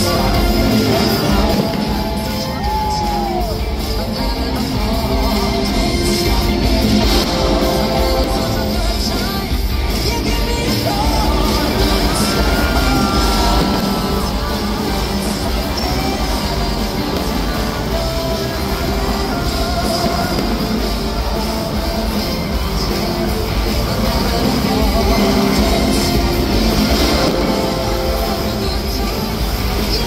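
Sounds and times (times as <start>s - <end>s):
rock music with singing: 0.0s - 30.0s.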